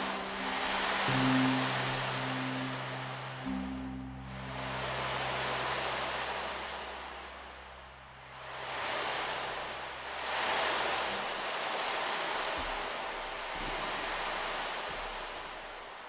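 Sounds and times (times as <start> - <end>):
low steady hum: 0.0 - 16.0
surf-like rushing noise: 0.0 - 16.0.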